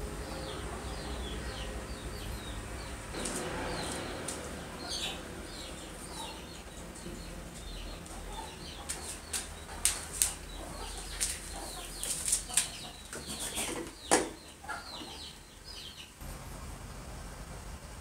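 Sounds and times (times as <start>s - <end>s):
birds chirping falling calls: 0.0s - 16.2s.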